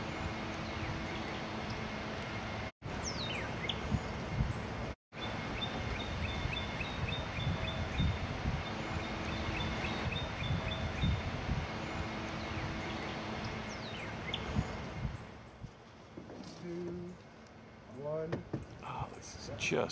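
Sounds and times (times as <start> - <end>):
songbirds chirping: 0.0 - 19.9.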